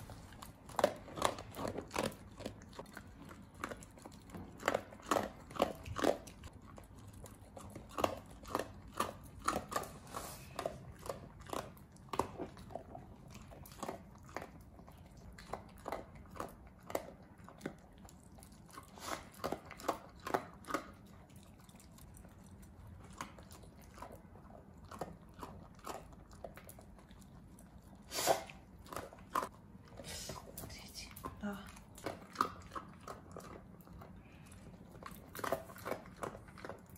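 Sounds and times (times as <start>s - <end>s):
dogs crunching dry kibble: 0.0s - 36.9s.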